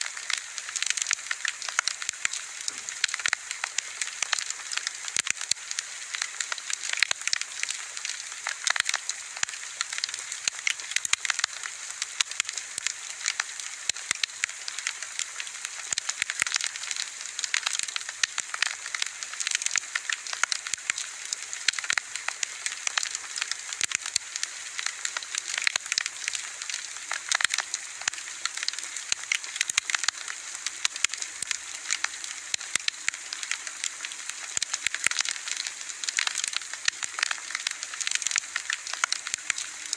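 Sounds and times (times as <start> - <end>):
wood bonfire crackling and popping: 0.0 - 39.9.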